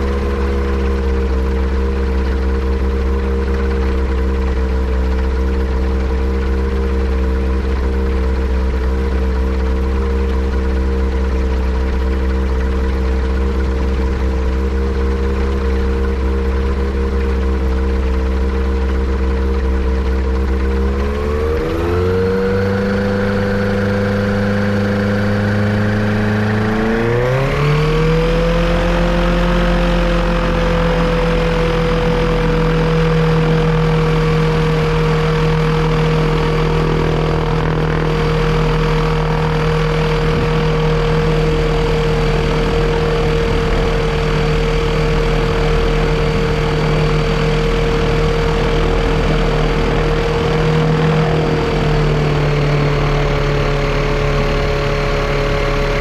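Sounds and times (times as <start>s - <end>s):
four-cylinder engine revving: 0.0s - 56.0s.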